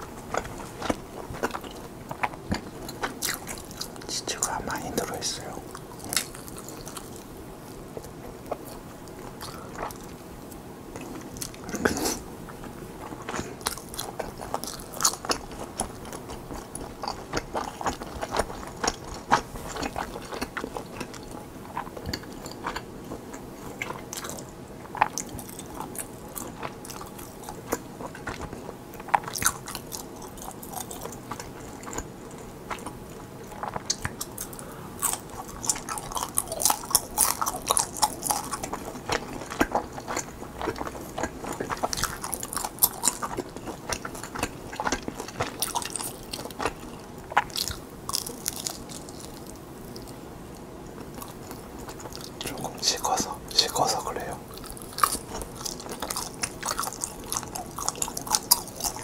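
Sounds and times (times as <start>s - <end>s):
close chewing mouth sounds: 0.0s - 59.0s.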